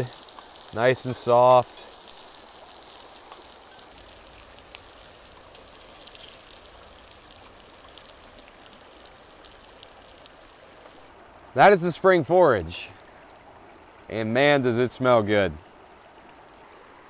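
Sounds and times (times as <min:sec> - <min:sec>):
shallow river over stones: 0:00.0 - 0:17.0.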